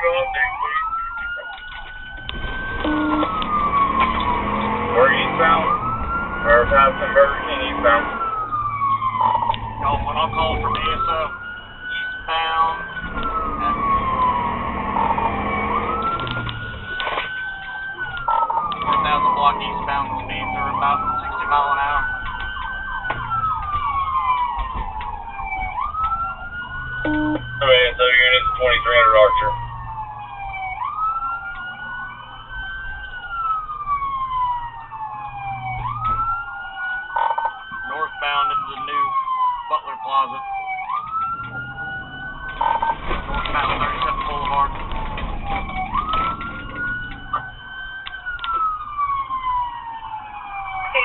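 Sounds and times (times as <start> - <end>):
engine and road rumble: 0.0 - 51.0
police siren wailing: 0.0 - 51.0.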